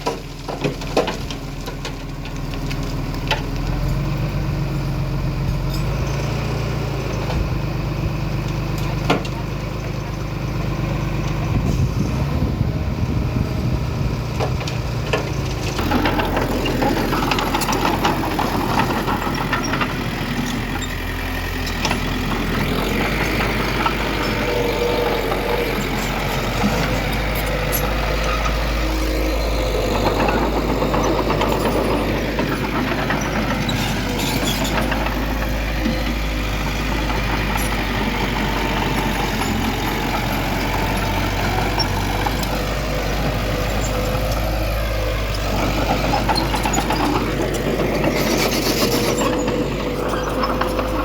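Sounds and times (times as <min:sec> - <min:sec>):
diesel machinery engine revving: 0:00.0 - 0:51.0.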